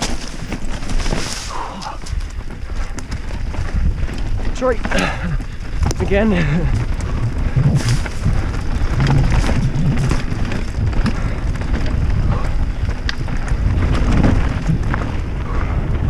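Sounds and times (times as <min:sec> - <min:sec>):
bike clicks and rattles: 0:00.0 - 0:16.0
tyres rolling on dirt: 0:00.0 - 0:16.0
wind buffeting microphone: 0:00.0 - 0:16.0.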